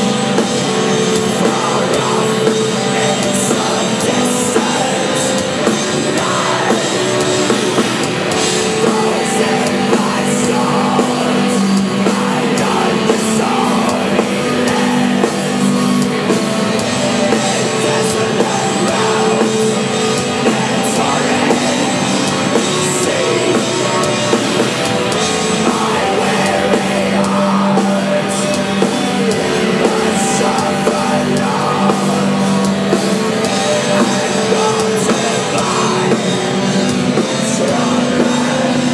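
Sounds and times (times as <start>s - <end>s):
distorted electric guitars: 0.0s - 38.9s
drum kit: 0.0s - 38.9s
vocals: 0.0s - 38.9s.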